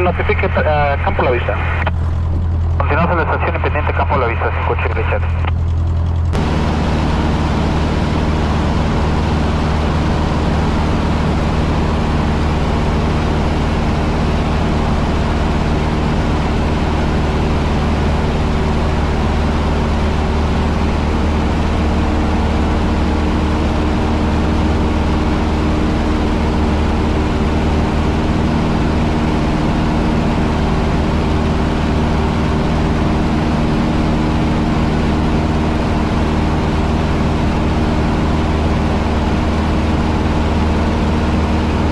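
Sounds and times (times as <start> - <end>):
airplane engine and propeller: 0.0 - 41.9.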